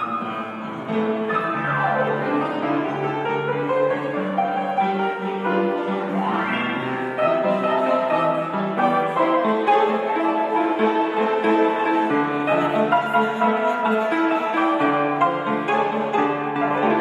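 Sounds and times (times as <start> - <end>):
piano piece: 0.0 - 17.0.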